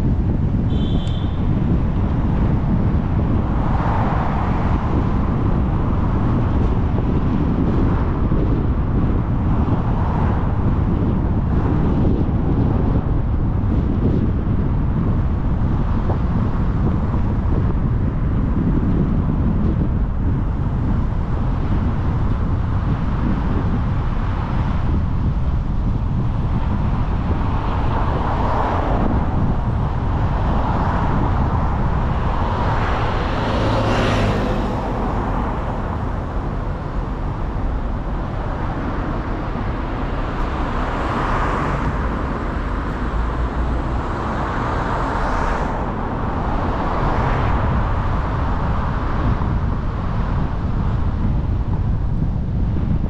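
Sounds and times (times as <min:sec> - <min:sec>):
car road and wind noise: 0:00.0 - 0:53.0
cars passing: 0:00.0 - 0:53.0.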